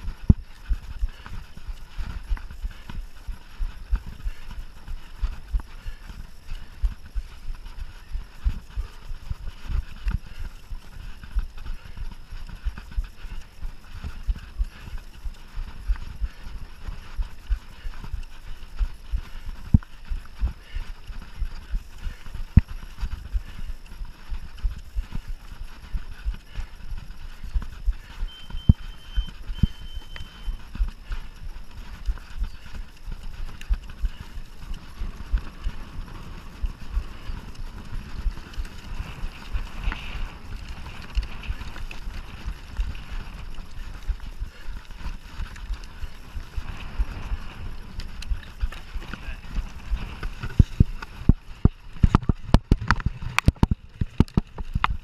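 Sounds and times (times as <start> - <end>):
mountain bike rattling over trail: 0.0 - 55.0.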